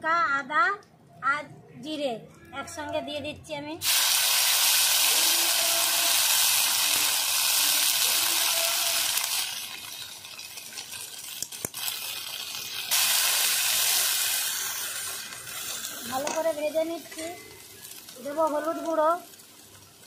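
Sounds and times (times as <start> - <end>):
spice paste sizzling in oil: 3.8 - 20.0.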